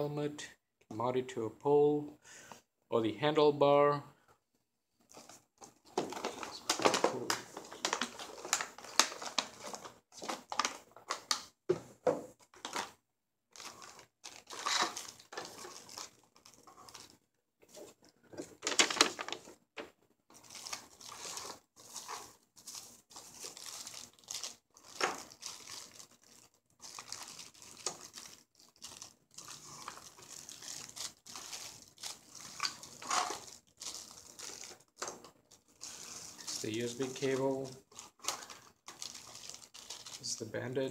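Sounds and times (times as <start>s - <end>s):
plastic packaging crinkling: 5.1s - 11.5s, 12.5s - 40.4s.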